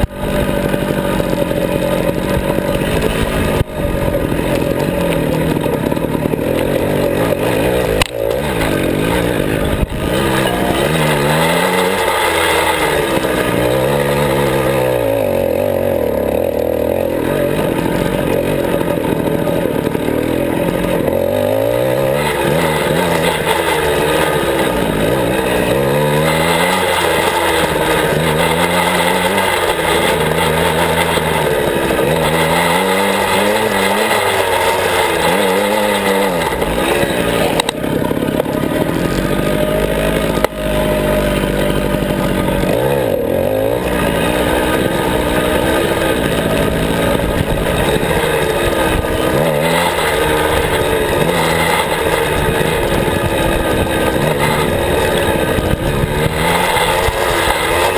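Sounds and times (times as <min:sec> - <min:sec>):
small two-stroke engine revving: 0:00.0 - 0:57.9.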